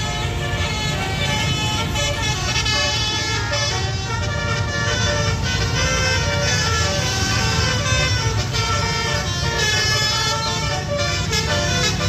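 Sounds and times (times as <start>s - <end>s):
low engine rumble: 0.0s - 12.0s
multi-tone bus horn tune: 0.0s - 12.0s.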